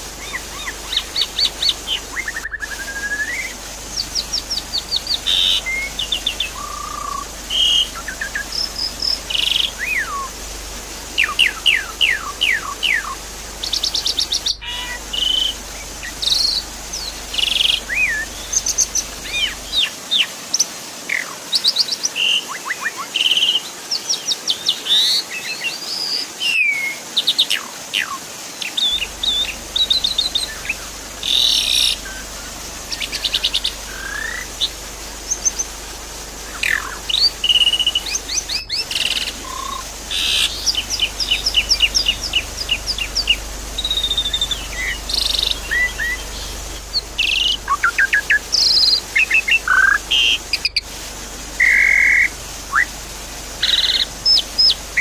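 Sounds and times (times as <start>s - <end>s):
starling singing: 0.0s - 20.3s, 27.5s - 50.9s, 53.6s - 55.0s
steady high hiss: 0.0s - 55.0s.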